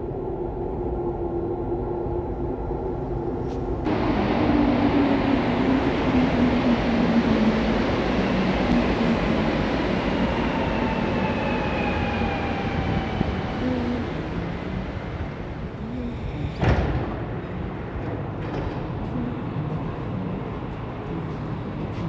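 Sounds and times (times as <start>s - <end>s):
metro train rumble: 0.0s - 22.0s.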